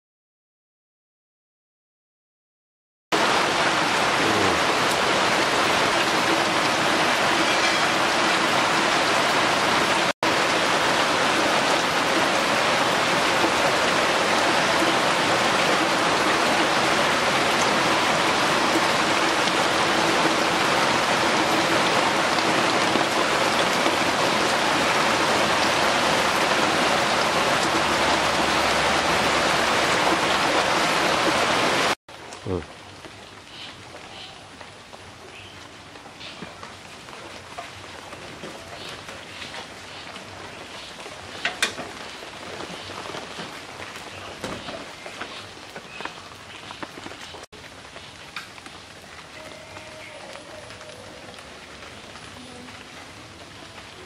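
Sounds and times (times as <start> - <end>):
steady rain: 3.1 - 54.0.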